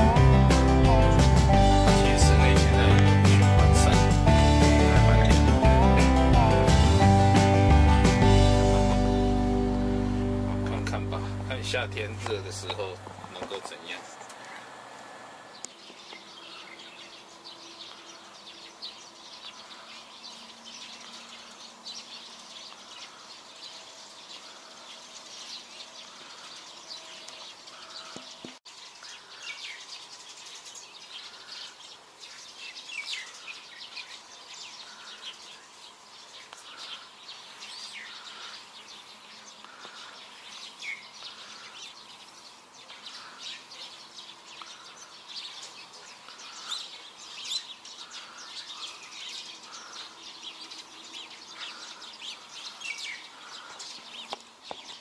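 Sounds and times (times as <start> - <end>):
many birds chirping: 0.0 - 55.0.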